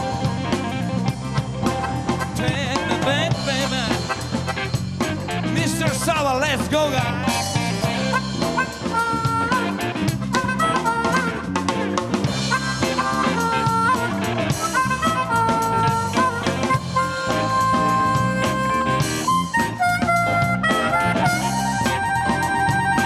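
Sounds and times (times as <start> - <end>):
amplified harmonica bending notes: 0.0 - 23.0
live blues band playing: 0.0 - 23.0.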